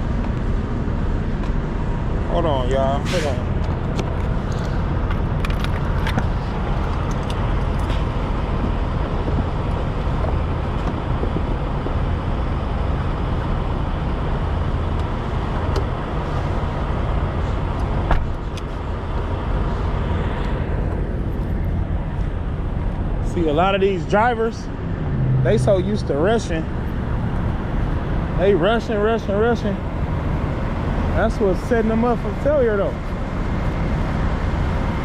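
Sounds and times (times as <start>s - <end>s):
diesel truck engine rumbling: 0.0s - 35.0s.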